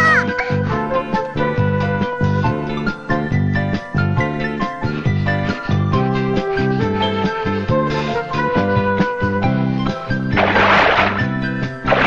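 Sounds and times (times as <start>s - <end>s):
lively bouncing background music: 0.0s - 12.0s.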